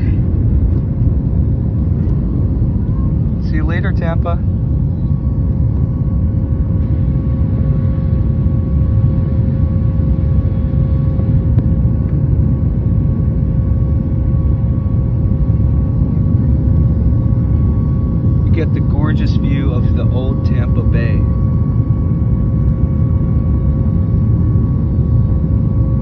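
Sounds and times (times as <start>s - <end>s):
jet engines roaring: 0.0s - 26.0s
steady humming tones: 0.0s - 26.0s.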